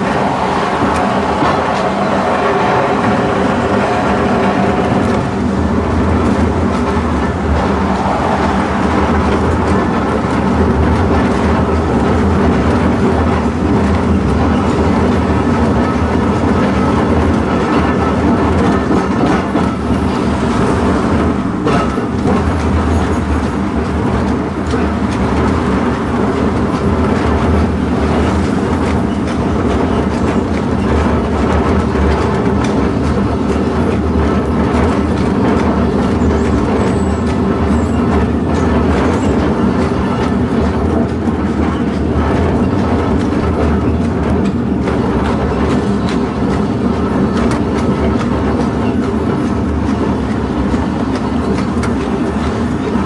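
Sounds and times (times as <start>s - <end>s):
tram wheels rolling on rails: 0.0s - 53.0s.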